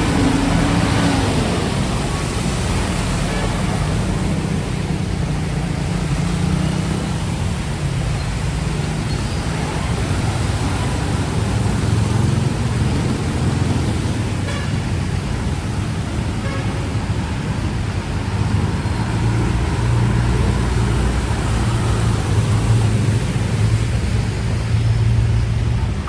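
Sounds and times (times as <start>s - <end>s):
road noise: 0.0s - 26.0s
vehicle engines rumbling: 0.0s - 26.0s.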